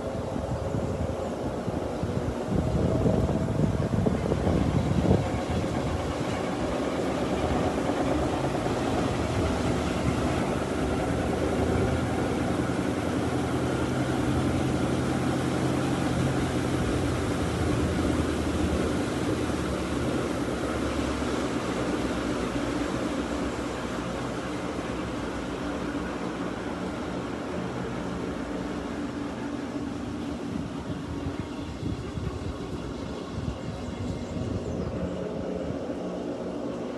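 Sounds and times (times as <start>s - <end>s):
washing machine humming: 0.0s - 36.9s.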